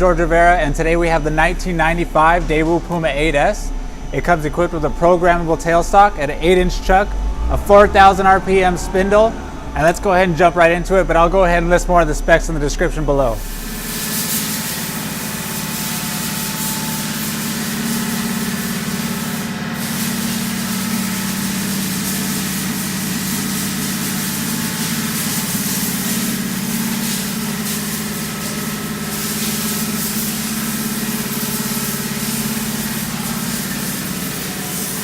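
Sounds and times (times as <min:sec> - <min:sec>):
machine hiss: 0:00.0 - 0:35.0
machine hum: 0:00.0 - 0:35.0.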